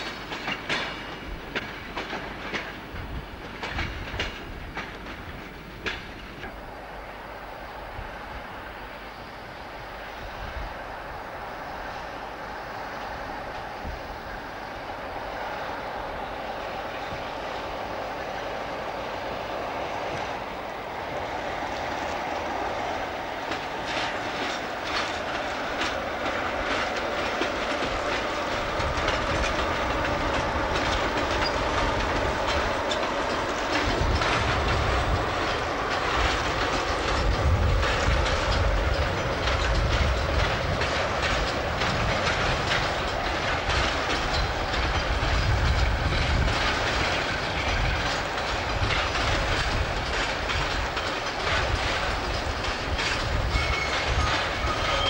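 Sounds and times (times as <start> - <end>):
train wheels clattering over rail joints: 0.0 - 7.3, 7.9 - 55.0
deep rumble of rolling wagons: 0.0 - 55.0
diesel locomotive passing: 0.0 - 55.0.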